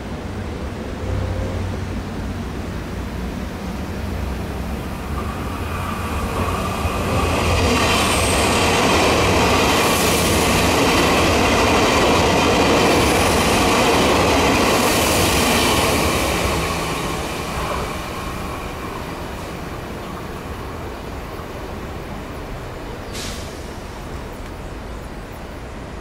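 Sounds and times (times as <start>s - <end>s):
train wheel and rail noise: 0.0s - 26.0s.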